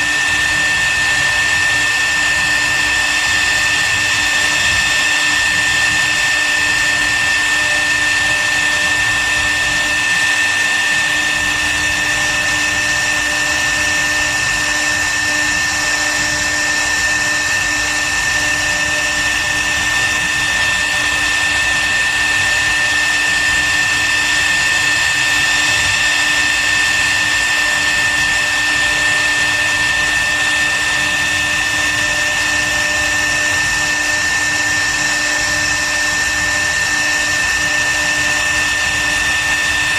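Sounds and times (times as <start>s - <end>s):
wood router spindle whine: 0.0s - 39.9s.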